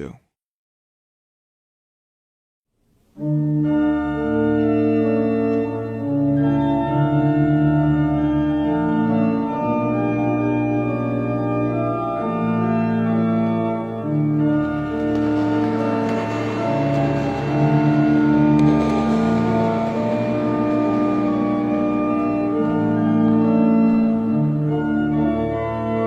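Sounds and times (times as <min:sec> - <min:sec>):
organ playing slow chords: 0:02.9 - 0:26.0.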